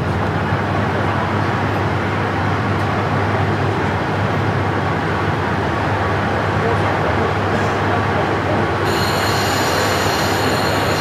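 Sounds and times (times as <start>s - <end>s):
rail running noise: 0.0s - 11.0s
railcar engine hum: 0.0s - 11.0s.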